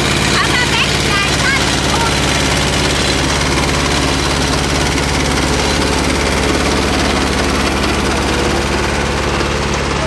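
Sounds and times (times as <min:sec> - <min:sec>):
small tractor engine running: 0:00.0 - 0:10.0.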